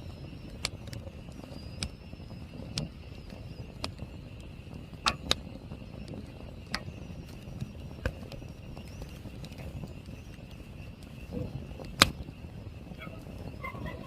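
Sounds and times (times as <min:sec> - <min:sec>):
sharp pops from fire: 0:00.0 - 0:13.6
campfire crackling: 0:00.0 - 0:14.0
faint high hum: 0:00.0 - 0:14.0.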